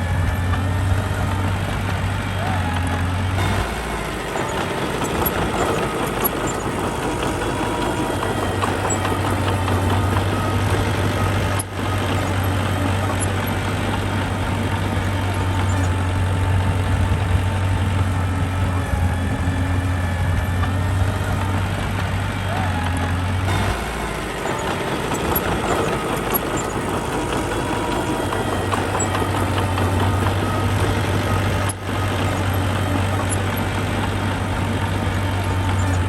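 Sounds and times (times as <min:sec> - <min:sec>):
diesel engine of heavy machinery: 0:00.0 - 0:36.0.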